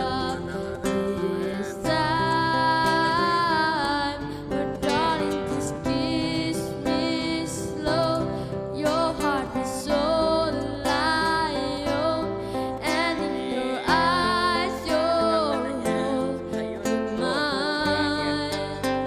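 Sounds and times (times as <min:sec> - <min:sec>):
song with wavering melody: 0:00.0 - 0:19.0.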